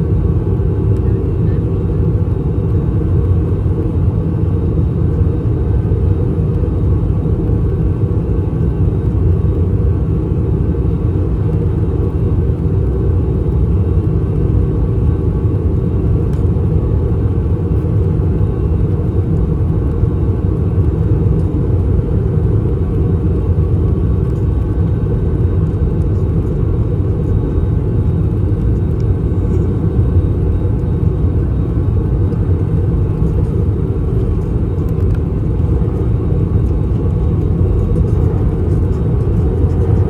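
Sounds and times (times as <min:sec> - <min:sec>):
airflow and jet engine rumble: 0:00.0 - 0:40.0.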